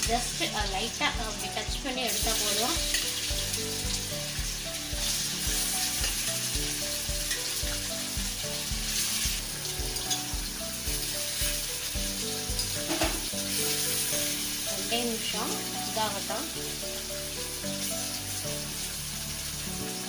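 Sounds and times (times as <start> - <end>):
background music with steady beat: 0.0 - 20.0
cheese sizzling in a pan: 0.0 - 20.0.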